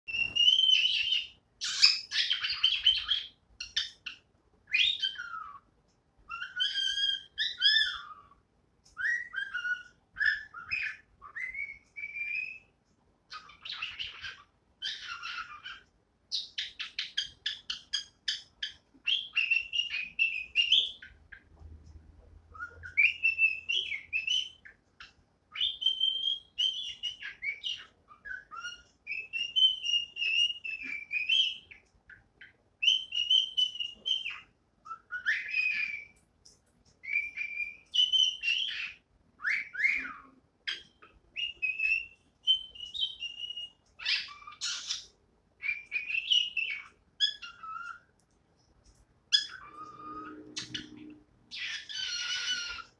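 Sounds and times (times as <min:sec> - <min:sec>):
cockatiel whistling: 0:00.1 - 0:05.6, 0:06.3 - 0:12.7, 0:13.3 - 0:21.2, 0:22.5 - 0:36.2, 0:37.0 - 0:48.1, 0:49.3 - 0:52.9
cockatiel chirps: 0:00.1 - 0:21.6, 0:22.4 - 0:52.9.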